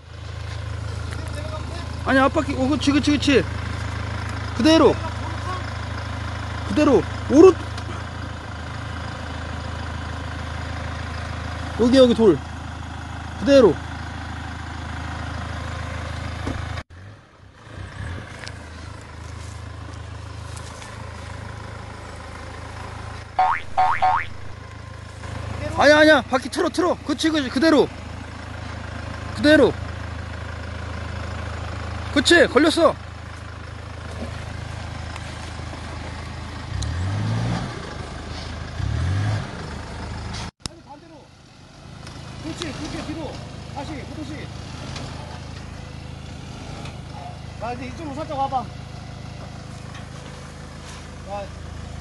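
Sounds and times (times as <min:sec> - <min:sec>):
engine humming at low revs: 0:00.0 - 0:52.0.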